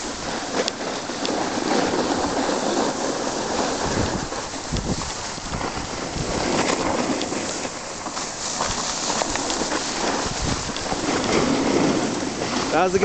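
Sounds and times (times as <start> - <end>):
crackles and crunches of snow: 0.0 - 13.0
snow scraping under sliding rider: 0.0 - 13.0.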